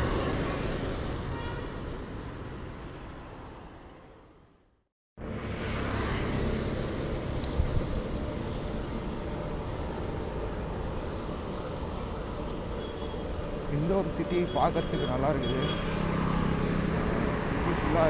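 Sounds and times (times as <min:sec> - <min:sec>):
light traffic: 0:00.0 - 0:18.0
road noise: 0:00.0 - 0:18.0.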